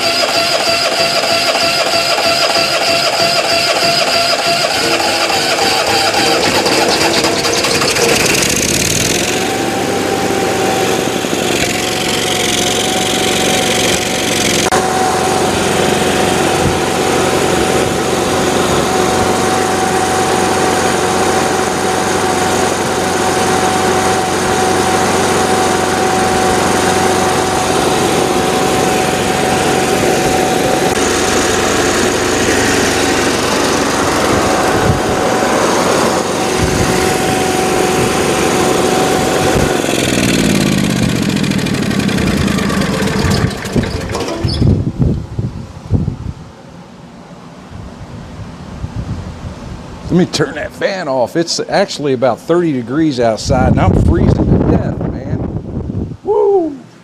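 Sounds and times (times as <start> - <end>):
steady whine: 0.0 - 48.7, 49.3 - 57.0
generator engine running steadily: 0.0 - 56.2.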